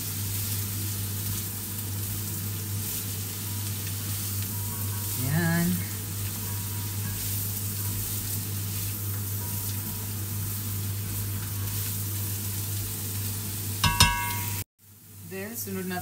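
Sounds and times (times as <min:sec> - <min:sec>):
spatula turning food in pan: 0:00.0 - 0:14.7
vegetables sizzling in oil: 0:00.0 - 0:16.0.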